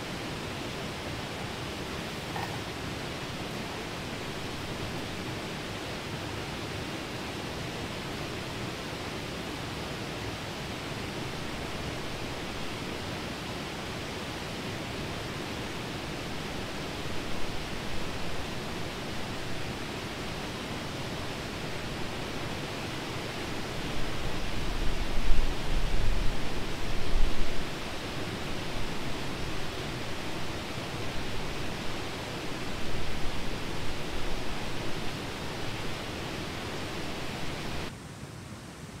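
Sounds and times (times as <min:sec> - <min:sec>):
wind hiss: 0:00.0 - 0:39.0.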